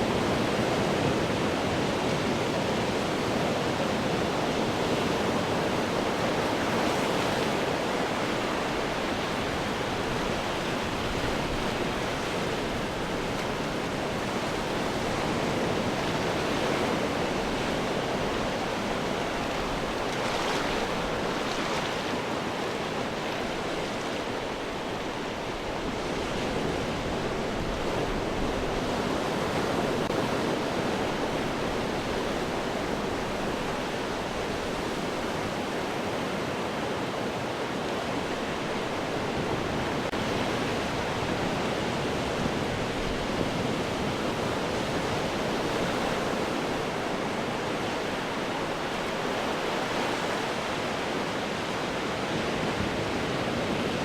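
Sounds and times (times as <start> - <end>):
ocean waves breaking over rocks: 0.0 - 54.0.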